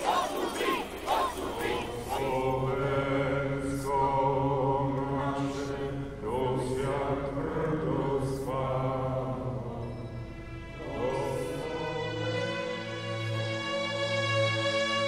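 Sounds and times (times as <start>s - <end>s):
person chanting in long notes: 0.0s - 15.0s
low steady drone: 0.9s - 15.0s.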